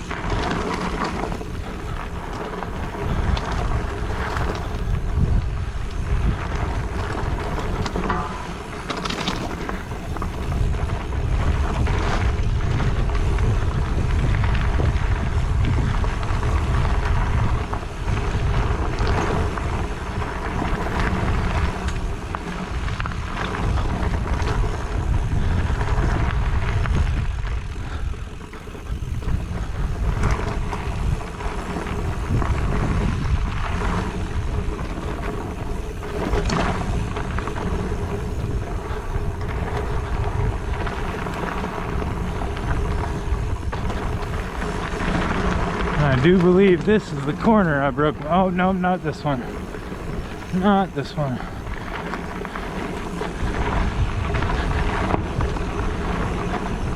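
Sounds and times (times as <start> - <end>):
bike knocking over bumps: 0.0 - 47.2
bike tyres on dirt trail: 0.0 - 56.9
wind rumbling on microphone: 0.0 - 56.9.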